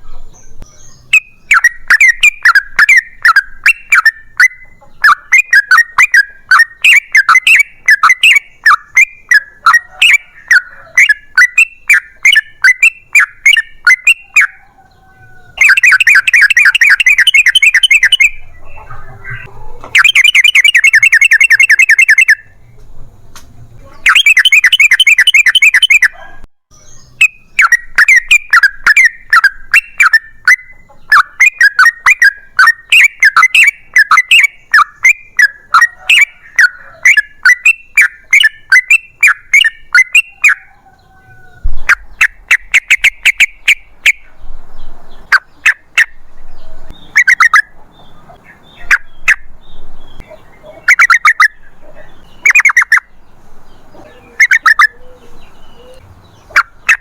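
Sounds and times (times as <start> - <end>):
bird singing bubbling notes: 0.0 - 14.6, 15.3 - 22.6, 24.0 - 40.7, 41.8 - 57.0.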